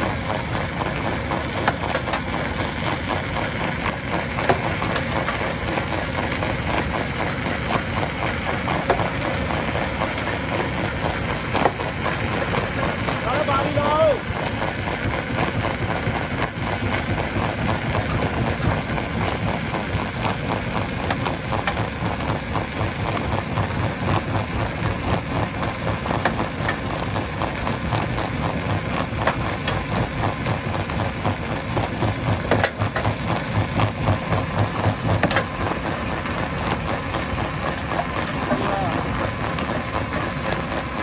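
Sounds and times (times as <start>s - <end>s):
heavy machinery engine clattering: 0.0s - 41.0s.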